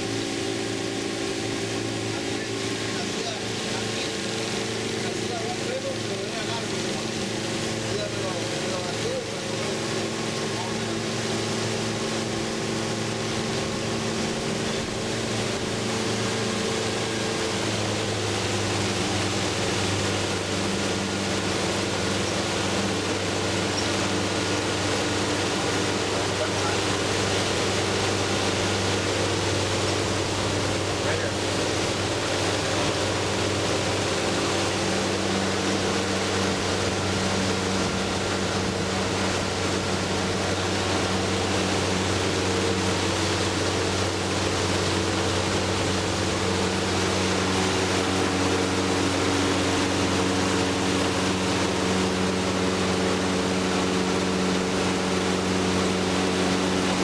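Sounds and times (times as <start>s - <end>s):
boat motor running: 0.0s - 57.0s
water noise: 0.0s - 57.0s.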